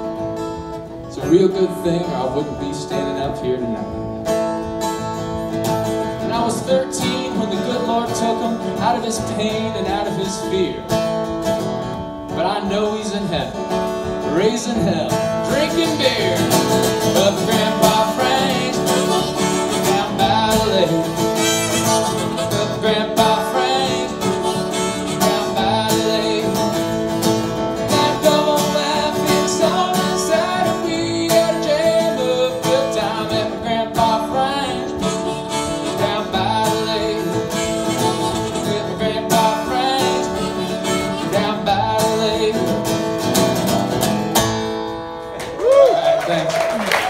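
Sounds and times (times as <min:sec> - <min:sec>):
acoustic guitar strumming chords: 0:00.0 - 0:45.4.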